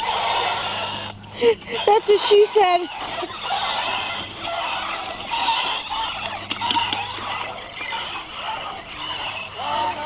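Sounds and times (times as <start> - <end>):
farm birds honking: 0.0 - 10.0
toy car wheels rolling on pavement: 0.0 - 10.0.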